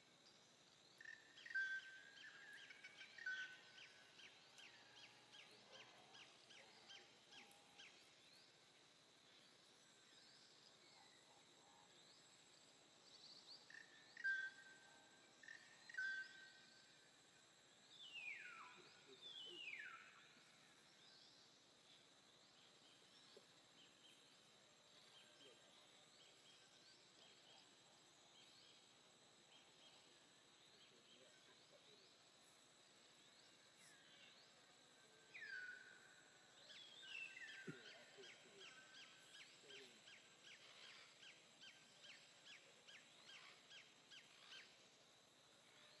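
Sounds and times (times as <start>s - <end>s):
faint chirps: 0.0s - 46.0s.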